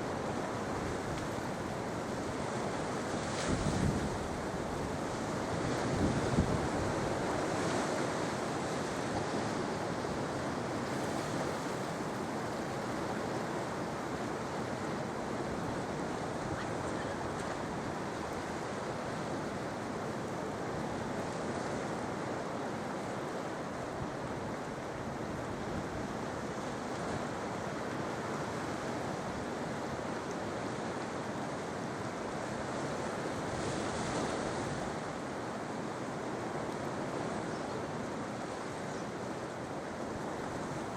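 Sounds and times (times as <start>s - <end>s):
sea waves washing ashore: 0.0s - 40.9s.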